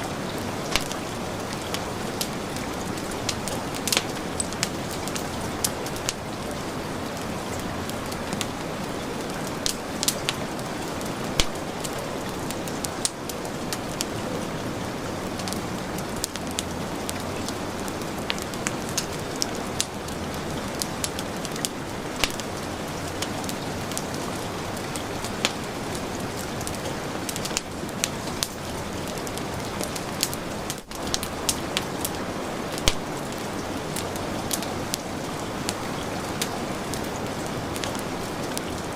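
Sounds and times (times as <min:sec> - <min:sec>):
heavy rain falling: 0:00.0 - 0:38.9
wood fire crackling and popping: 0:00.0 - 0:38.9.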